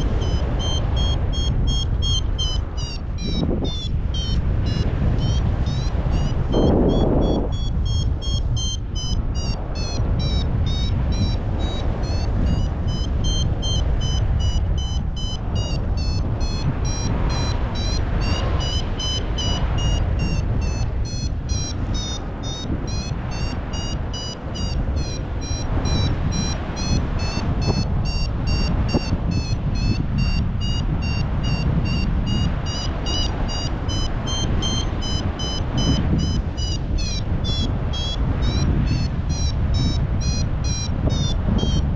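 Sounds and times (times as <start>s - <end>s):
variometer beeping: 0.0s - 41.9s
wind buffeting microphone: 0.0s - 41.9s.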